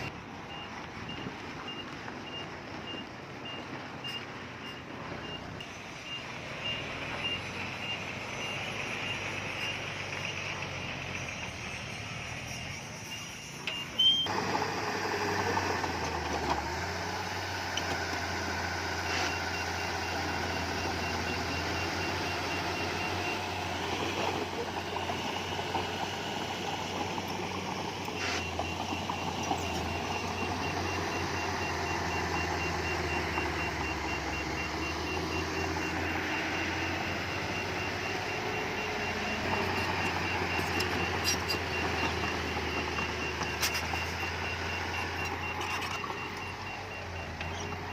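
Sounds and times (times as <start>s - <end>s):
reversing alarm beeping: 0.0s - 14.3s, 18.5s - 47.9s
diesel engine running: 0.0s - 47.9s.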